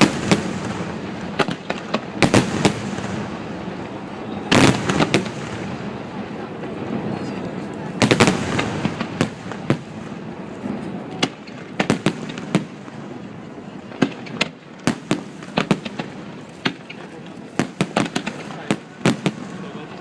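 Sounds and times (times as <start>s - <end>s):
fireworks bangs and crackling pops: 0.0s - 20.0s.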